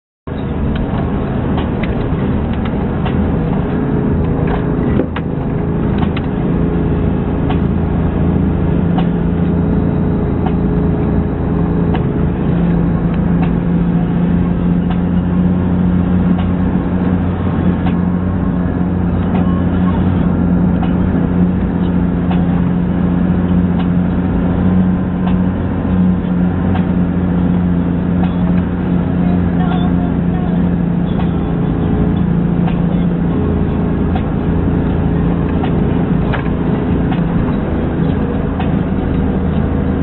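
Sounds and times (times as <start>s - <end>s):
vehicle engine running: 0.3s - 40.0s.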